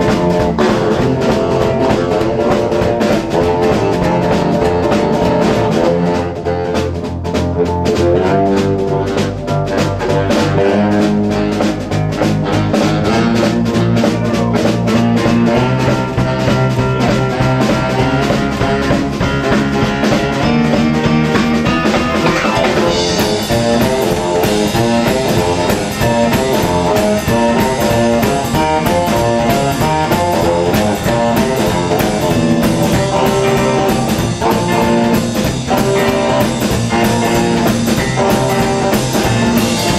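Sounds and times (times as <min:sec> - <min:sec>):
baritone saxophone: 0:00.0 - 0:39.9
double bass: 0:00.0 - 0:39.9
drum kit: 0:00.0 - 0:39.9
electric guitar: 0:00.0 - 0:39.9.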